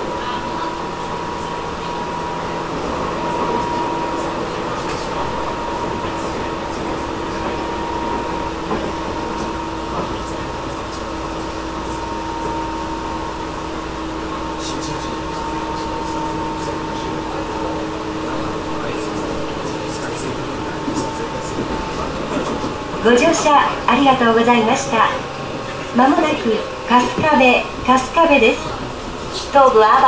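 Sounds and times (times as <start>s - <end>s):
humming tones: 0.0s - 30.0s
train running rumble: 0.0s - 30.0s.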